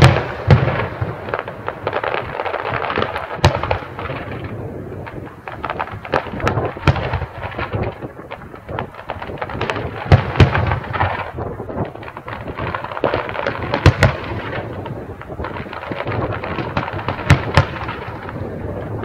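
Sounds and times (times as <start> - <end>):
crackle and rumble of small bursts: 0.0 - 19.0
firework shells bursting with bangs: 0.0 - 19.0.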